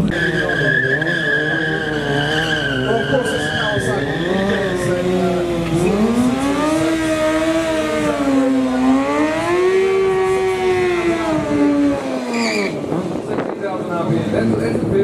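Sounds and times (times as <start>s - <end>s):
motorcycle engine at high revs: 1.0s - 14.7s.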